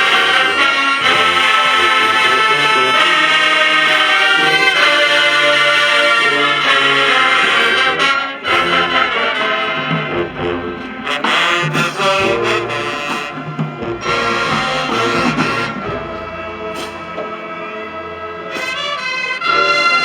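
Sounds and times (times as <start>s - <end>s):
marching band playing brass: 0.0s - 20.0s.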